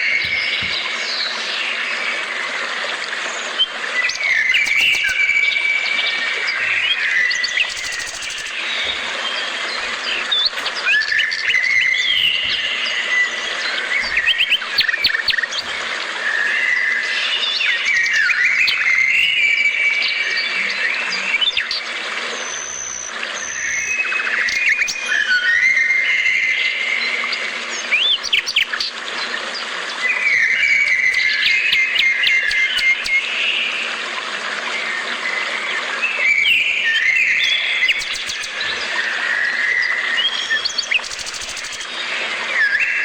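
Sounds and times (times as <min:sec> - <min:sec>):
birds singing and chirping: 0:00.0 - 0:33.8, 0:34.8 - 0:43.0.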